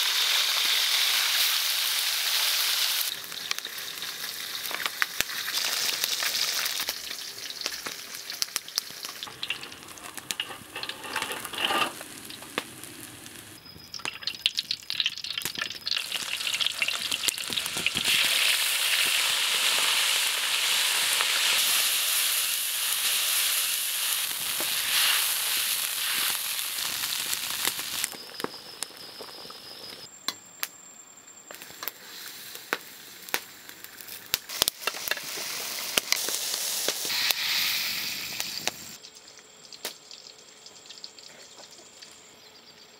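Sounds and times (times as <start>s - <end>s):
hot oil sizzling and crackling: 0.0s - 30.1s, 31.5s - 42.9s.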